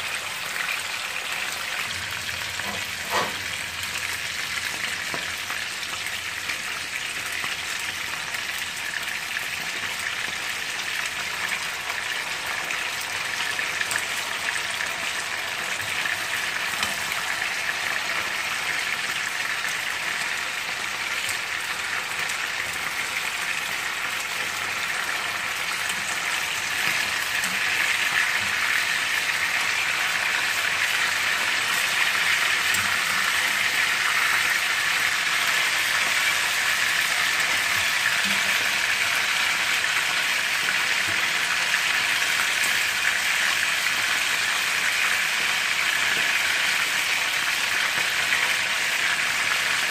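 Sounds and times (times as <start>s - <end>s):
chicken frying in oil: 0.0s - 49.9s.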